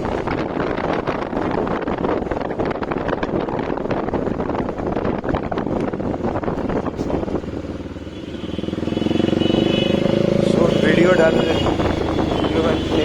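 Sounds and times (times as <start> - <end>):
motorcycle engine while riding: 0.0 - 13.0
wind buffeting microphone: 0.0 - 13.0.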